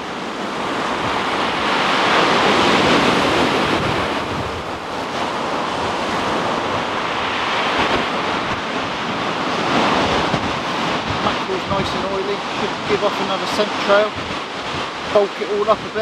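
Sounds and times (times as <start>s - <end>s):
surf washing onto shingle: 0.0s - 16.0s
wind buffeting microphone: 0.0s - 16.0s.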